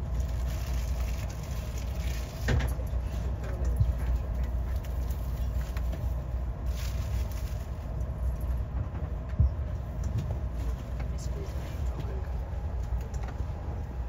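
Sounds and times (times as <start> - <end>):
train rumbling from inside carriage: 0.0 - 14.0.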